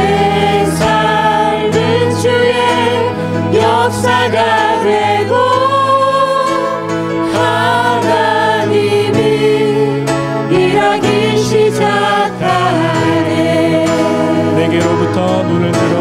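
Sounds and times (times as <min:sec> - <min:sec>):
acoustic guitar: 0:00.0 - 0:16.0
group singing worship song: 0:00.0 - 0:16.0.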